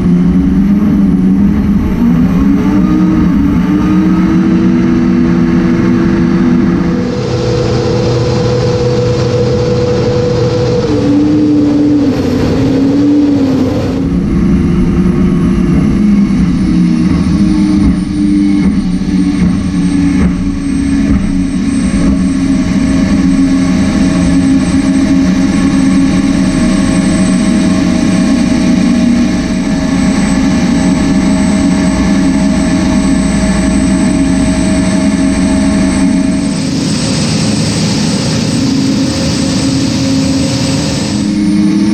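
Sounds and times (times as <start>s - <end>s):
boat engine running at high revs: 0.0s - 41.9s
rushing noise: 0.0s - 41.9s.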